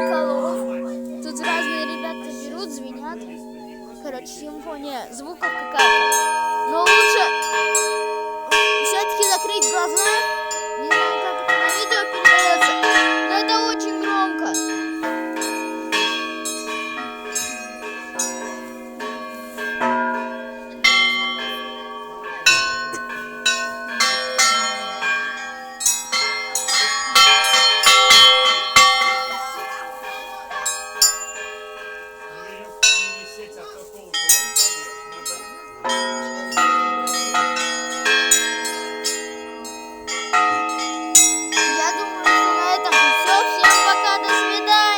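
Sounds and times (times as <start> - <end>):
deep church bells ringing: 0.0 - 44.9
small church bells struck: 0.0 - 44.9.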